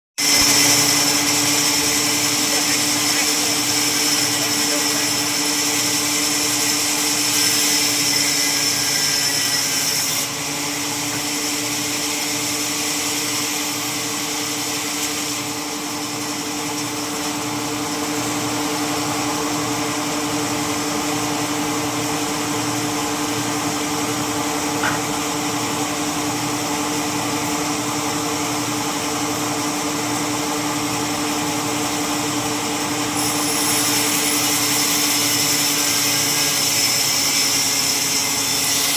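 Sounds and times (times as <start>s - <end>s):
sawmill saw running: 0.2s - 38.9s.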